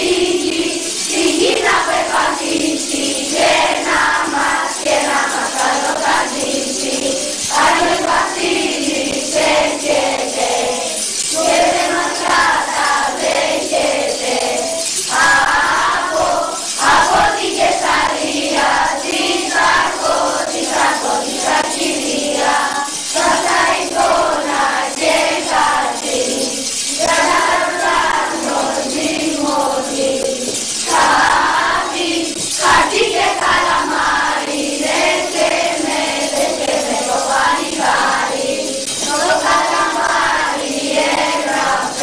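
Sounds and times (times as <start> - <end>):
children singing carols: 0.0 - 42.0
jingling percussion: 0.0 - 42.0.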